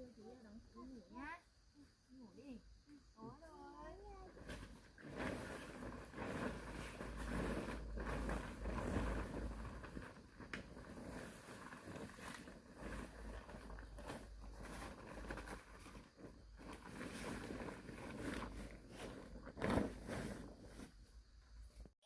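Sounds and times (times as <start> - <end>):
rustling and scraping: 4.2 - 22.0.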